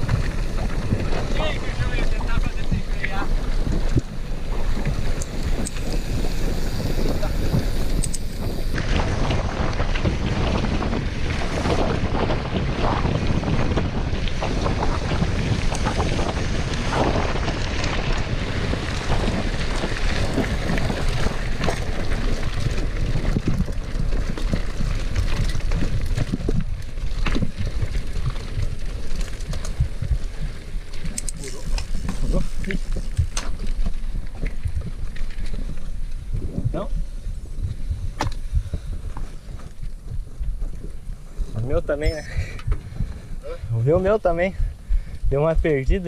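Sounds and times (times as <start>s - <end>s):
bike tyre rumble: 0.0s - 46.0s
wind buffeting microphone: 0.0s - 46.0s.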